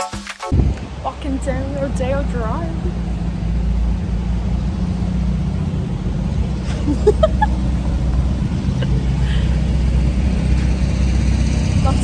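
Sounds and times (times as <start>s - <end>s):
street traffic engines rumbling: 0.5s - 12.0s.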